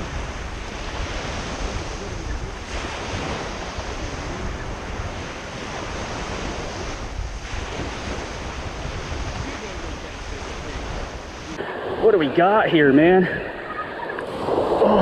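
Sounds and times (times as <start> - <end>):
small waves breaking on sand: 0.0 - 15.0
wind rumbling on microphone: 0.0 - 15.0.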